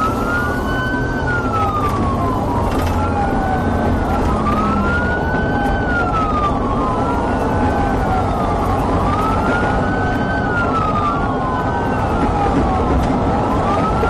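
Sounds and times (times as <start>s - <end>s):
engine and road noise rumble: 0.0s - 14.0s
police siren wailing: 0.0s - 14.0s.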